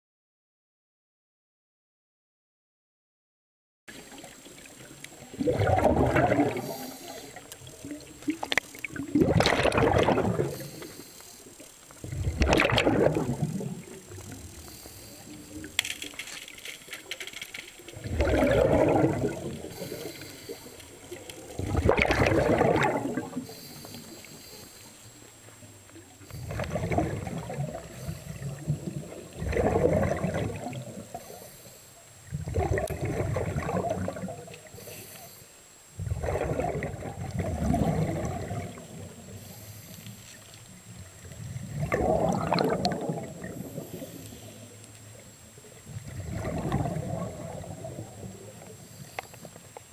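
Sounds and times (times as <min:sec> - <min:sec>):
underwater exhaled bubbles: 0:03.9 - 0:49.9.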